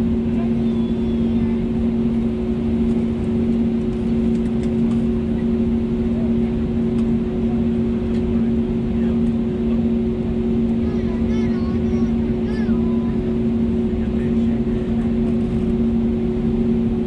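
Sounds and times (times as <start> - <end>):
aircraft cabin hum: 0.0 - 17.0.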